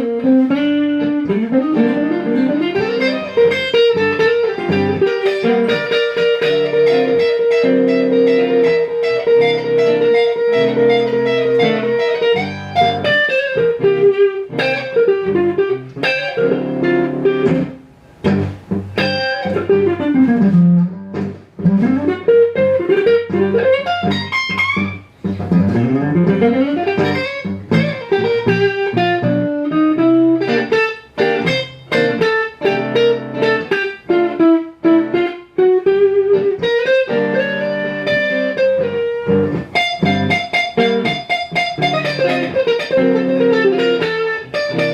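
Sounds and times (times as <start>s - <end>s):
electric guitar blues solo: 0.0s - 44.9s.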